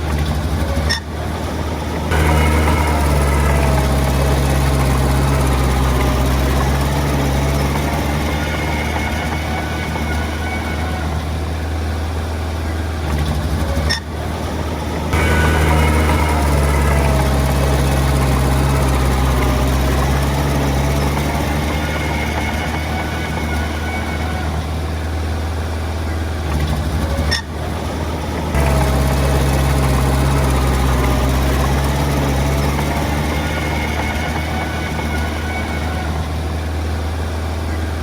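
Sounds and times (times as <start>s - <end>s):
diesel earthmoving equipment running: 0.0s - 38.0s.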